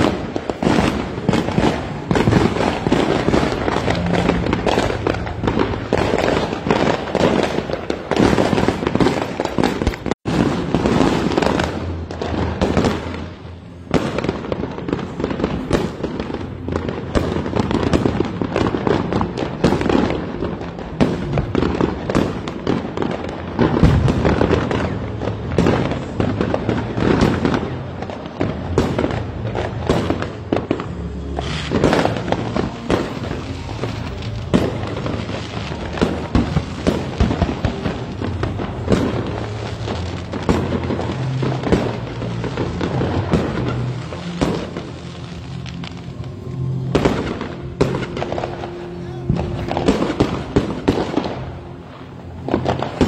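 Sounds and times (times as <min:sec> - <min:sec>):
fireworks and firecrackers crackling: 0:00.0 - 0:53.0.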